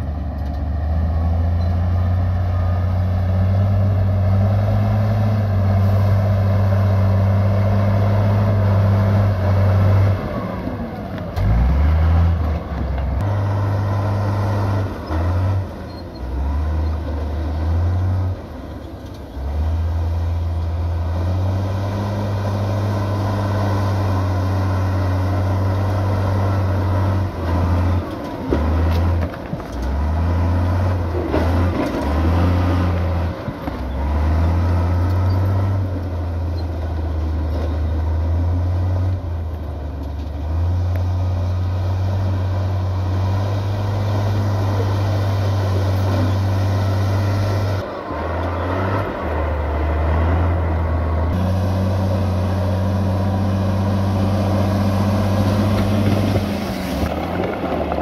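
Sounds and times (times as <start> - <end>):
heavy machinery diesel engines rumbling: 0.0 - 58.0.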